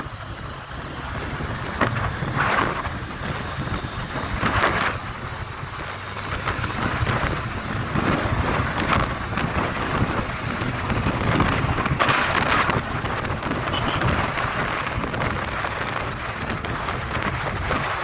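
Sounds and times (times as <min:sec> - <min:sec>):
motorcycle rumble: 0:00.0 - 0:18.0
wind rushing over microphone: 0:00.0 - 0:18.0.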